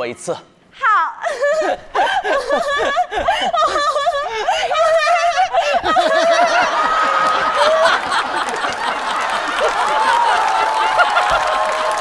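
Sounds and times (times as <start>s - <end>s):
studio audience laughing: 1.6s - 12.0s.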